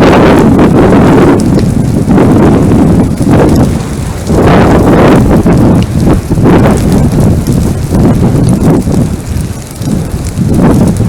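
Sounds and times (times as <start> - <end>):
faint fire crackles: 0.0 - 11.0
wildfire roaring: 0.0 - 11.0
wind buffeting microphone: 0.0 - 11.0.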